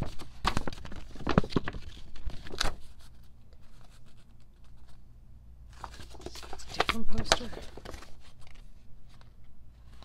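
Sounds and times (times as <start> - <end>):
paper rustling and crackling: 0.0 - 5.0, 5.7 - 10.0.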